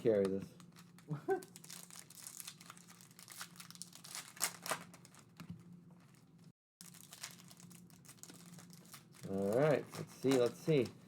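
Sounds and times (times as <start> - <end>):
card pack wrapping crinkling: 0.1 - 5.4, 6.8 - 11.0.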